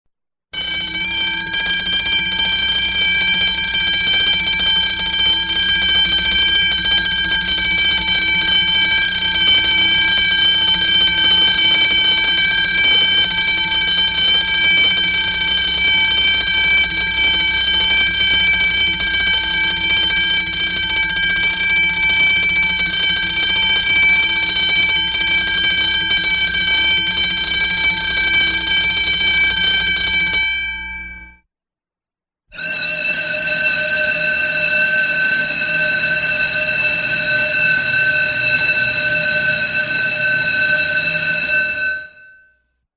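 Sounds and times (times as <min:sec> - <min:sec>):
school bell ringing: 0:00.6 - 0:31.3, 0:32.6 - 0:42.5.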